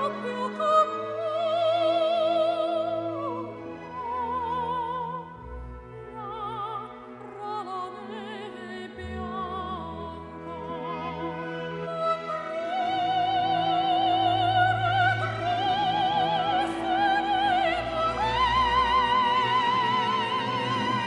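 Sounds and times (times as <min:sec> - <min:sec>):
operatic singing with vibrato: 0:00.0 - 0:21.0
orchestral accompaniment: 0:00.0 - 0:21.0.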